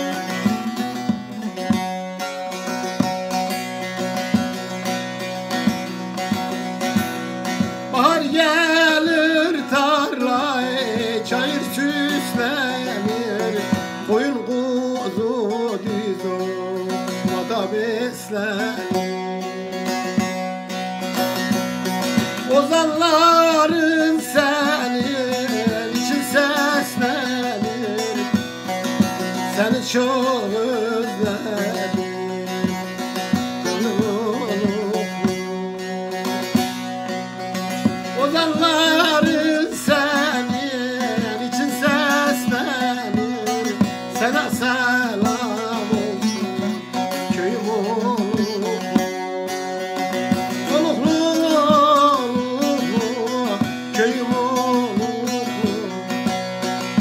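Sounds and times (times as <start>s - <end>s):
strummed long-necked lute folk music: 0.0s - 57.0s.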